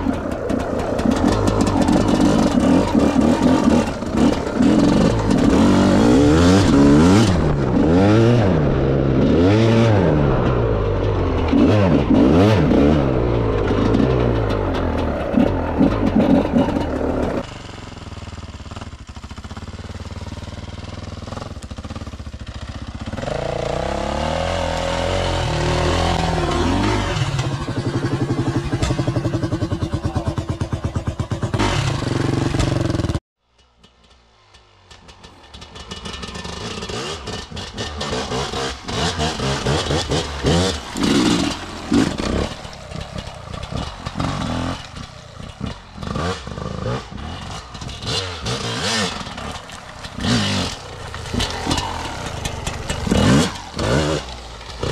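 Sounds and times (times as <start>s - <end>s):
dirt bike engine revving: 0.0s - 33.2s, 35.5s - 54.9s.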